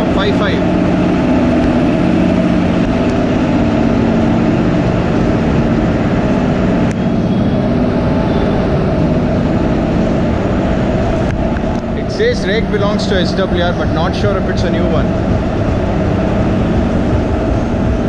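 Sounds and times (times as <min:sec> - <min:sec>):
locomotive machinery hum: 0:00.0 - 0:18.0
low rumbling noise: 0:00.0 - 0:18.0.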